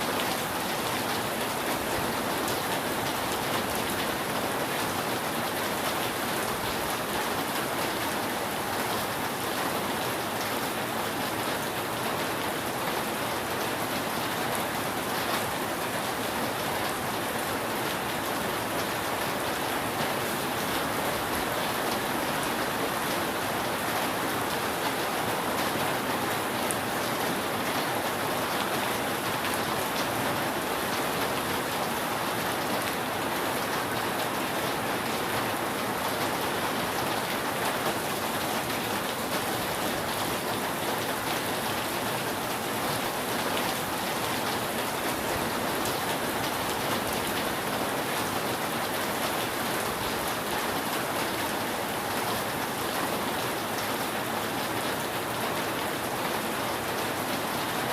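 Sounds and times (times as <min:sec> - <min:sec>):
rain on a roof: 0:00.0 - 0:57.9.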